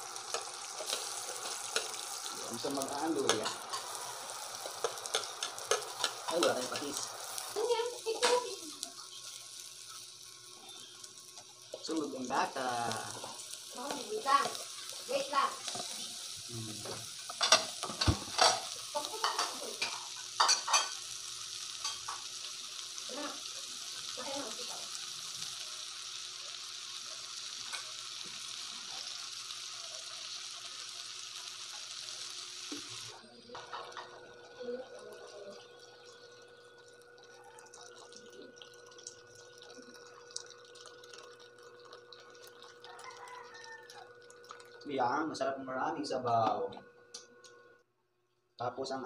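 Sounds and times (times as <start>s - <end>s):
water pouring into a pot: 0.0s - 45.2s
sizzling hiss: 0.0s - 47.7s.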